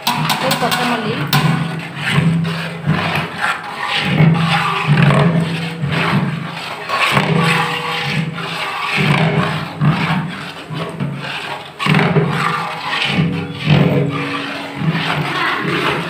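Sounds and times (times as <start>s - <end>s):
ladle scraping a metal pot: 0.0s - 16.0s.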